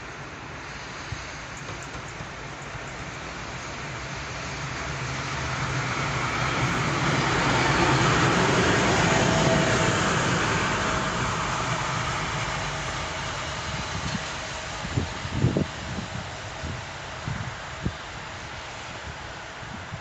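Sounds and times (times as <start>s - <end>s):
diesel locomotive passing: 0.0s - 20.0s.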